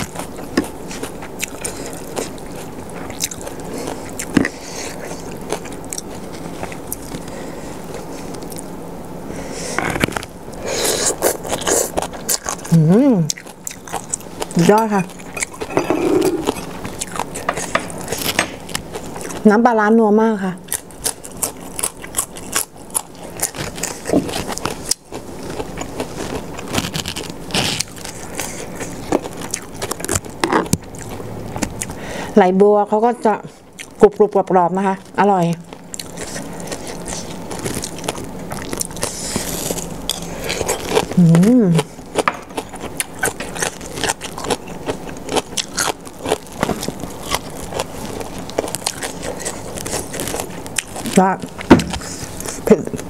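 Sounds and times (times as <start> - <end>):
chewing crisp raw vegetables: 0.0 - 8.7, 9.7 - 19.6, 20.6 - 32.1, 33.3 - 53.0.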